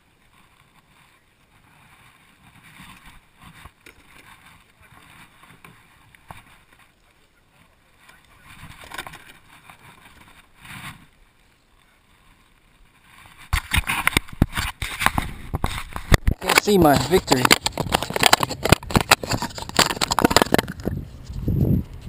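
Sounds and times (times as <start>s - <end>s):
scuffs and scrapes on plastic kayak: 0.0s - 22.0s.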